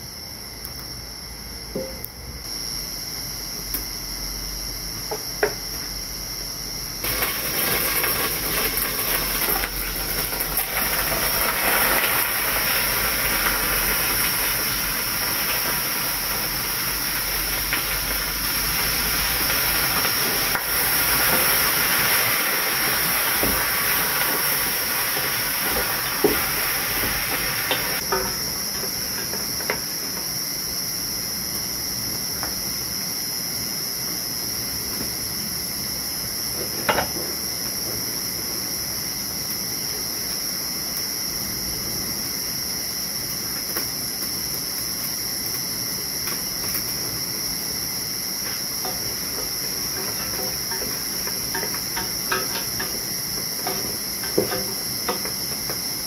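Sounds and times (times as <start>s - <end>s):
crickets chirring: 0.0s - 56.0s
steam hissing from boiling pot: 2.5s - 56.0s.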